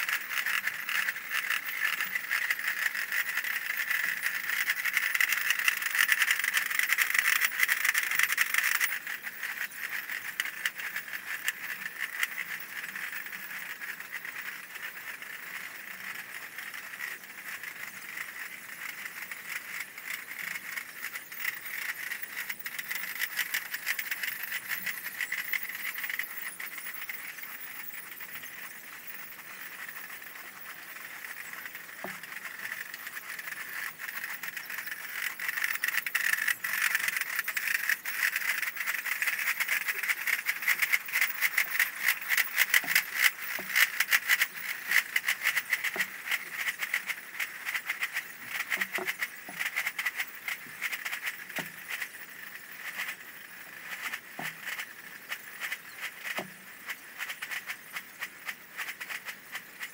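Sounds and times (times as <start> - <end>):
rattle of drumming: 0.0 - 59.9.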